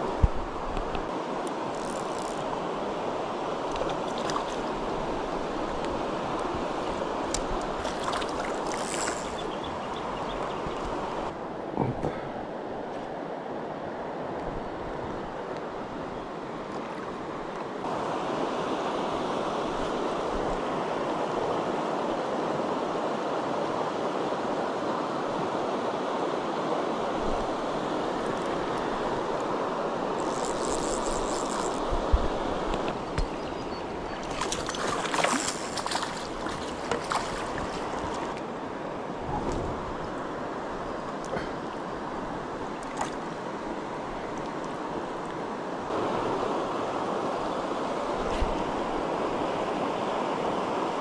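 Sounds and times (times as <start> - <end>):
river rushing over stones: 0.0 - 11.8, 15.7 - 51.0.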